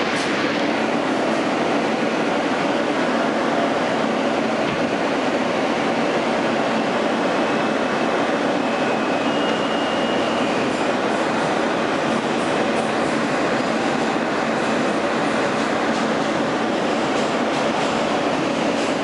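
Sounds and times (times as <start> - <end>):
subway wheels rumbling: 0.0 - 19.0.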